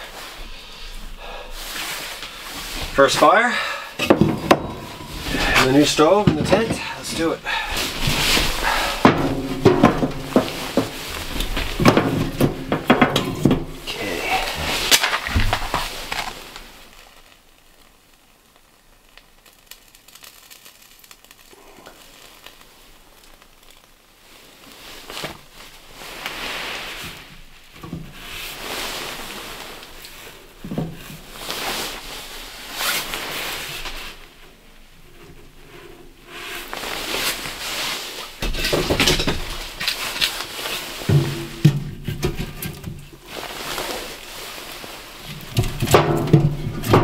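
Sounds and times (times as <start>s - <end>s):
rustling and crinkling: 0.0s - 47.0s.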